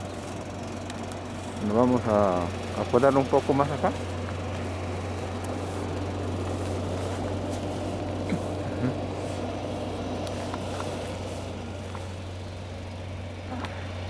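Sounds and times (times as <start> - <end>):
diesel truck engines droning: 0.0 - 14.0.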